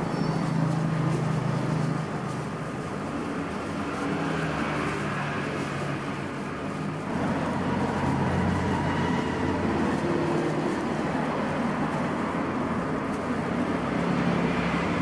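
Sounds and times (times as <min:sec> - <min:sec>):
street traffic hum: 0:00.0 - 0:15.0.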